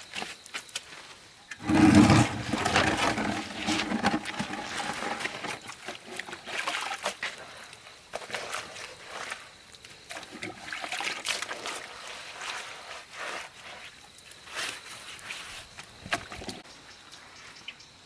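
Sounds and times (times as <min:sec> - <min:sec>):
water trickling and splashing: 0:01.6 - 0:16.7.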